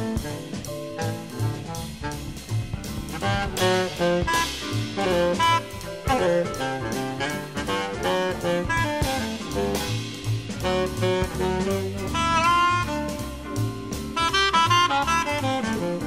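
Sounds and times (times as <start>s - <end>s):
jazz music with saxophone: 0.0s - 16.0s.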